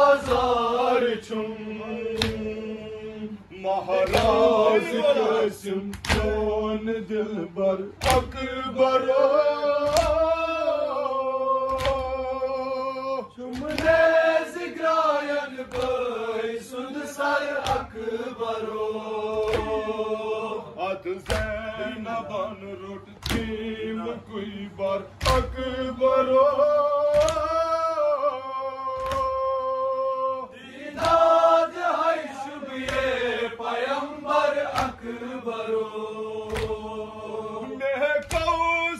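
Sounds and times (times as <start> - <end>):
group chanting a lament: 0.0 - 38.9.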